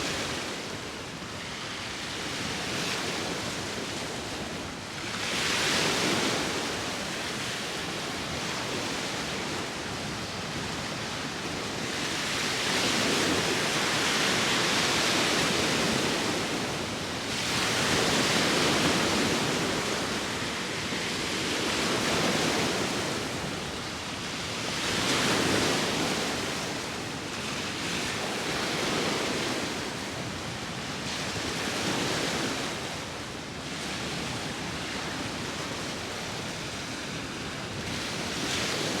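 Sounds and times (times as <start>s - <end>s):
waves washing onto shore: 0.0s - 39.0s.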